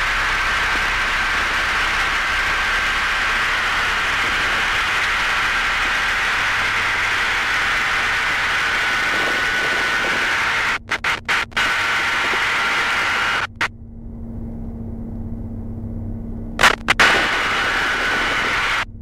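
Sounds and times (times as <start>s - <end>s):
microlight aircraft engine droning: 0.0s - 19.0s.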